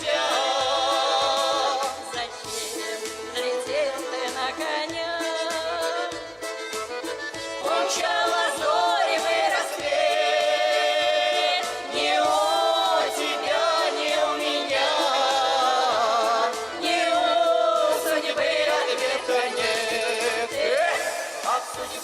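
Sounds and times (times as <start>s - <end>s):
accordion accompaniment: 0.0s - 22.0s
group singing folk song: 0.0s - 22.0s.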